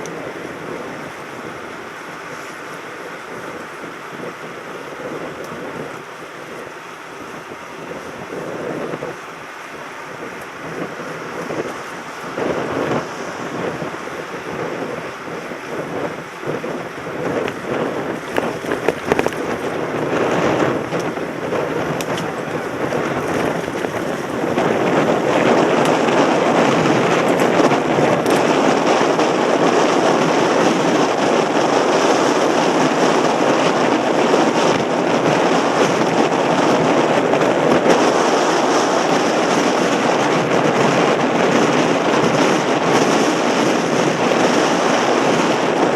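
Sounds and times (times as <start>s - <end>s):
bike rattling over rough ground: 0.0s - 45.9s
wind rushing over microphone: 0.0s - 45.9s.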